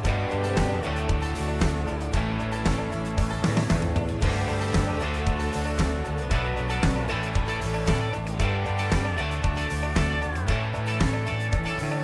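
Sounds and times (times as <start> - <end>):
country music with strummed guitar: 0.0 - 12.0.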